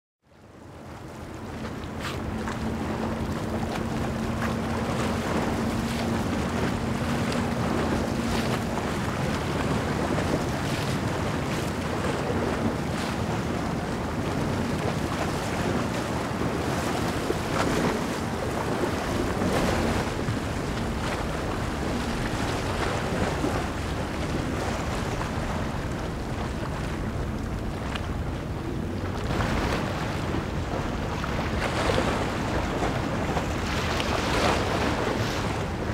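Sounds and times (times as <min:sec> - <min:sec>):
rush of water from boat wake: 0:00.3 - 0:35.9
wind buffeting microphone: 0:00.7 - 0:35.9.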